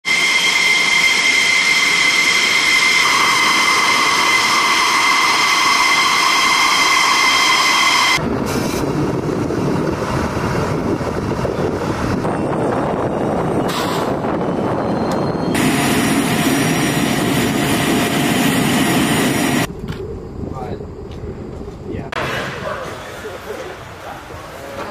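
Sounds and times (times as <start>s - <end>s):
jet engine idling with turbine whine: 0.0s - 22.1s
rough jet rumble: 0.0s - 24.9s.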